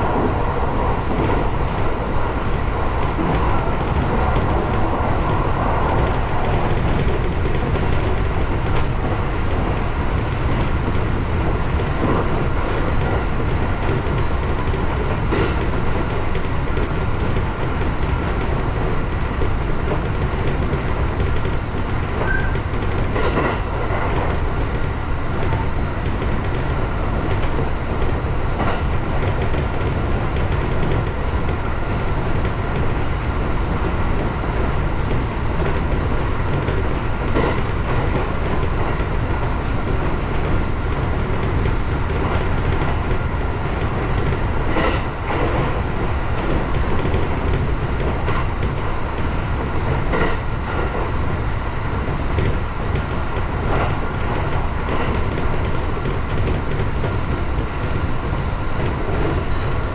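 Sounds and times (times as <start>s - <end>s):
train wheel-on-rail rumble: 0.0s - 59.9s.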